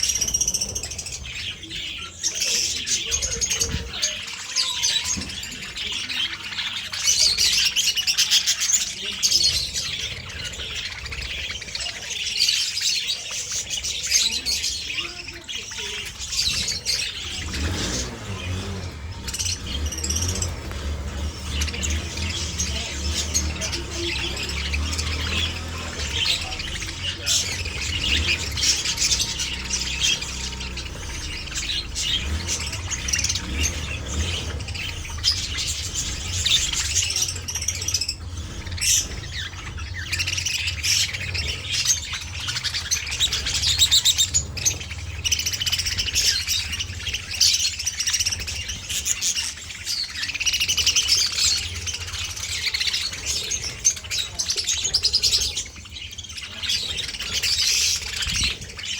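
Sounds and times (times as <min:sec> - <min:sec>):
budgerigars chattering: 0:00.0 - 0:58.9.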